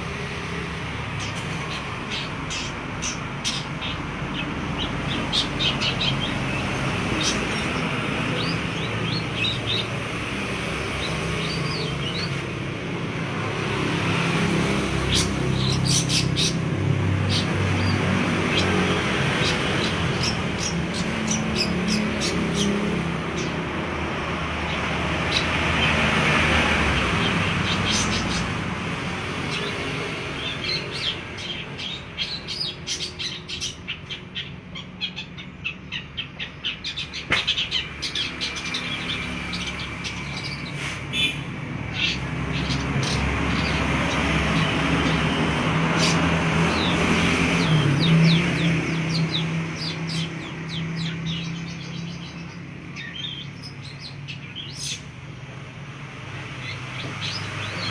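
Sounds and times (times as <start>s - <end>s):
bird chattering song: 1.2s - 10.2s, 14.9s - 23.8s, 24.7s - 28.6s, 29.5s - 55.2s, 56.5s - 57.9s.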